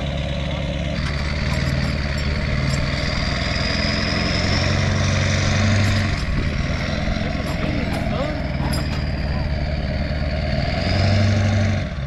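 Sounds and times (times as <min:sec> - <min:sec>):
vehicle engine running under load: 0:00.0 - 0:12.0.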